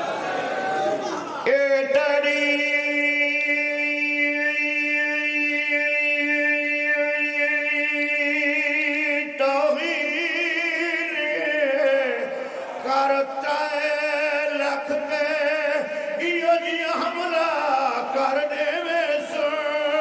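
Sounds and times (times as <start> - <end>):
man chanting: 1.0 - 20.0.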